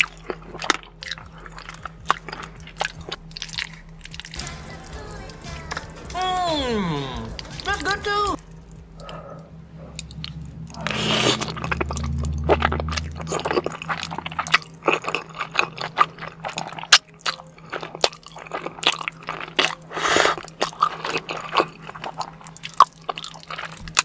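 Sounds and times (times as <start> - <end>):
wet squishy chewing: 0.0 - 6.2, 8.4 - 24.0.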